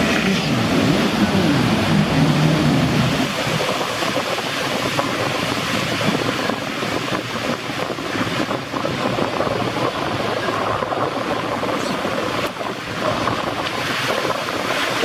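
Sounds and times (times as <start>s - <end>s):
jet ski engine: 0.0s - 15.0s
waves breaking and sloshing: 0.0s - 15.0s
wind buffeting microphone: 0.0s - 15.0s.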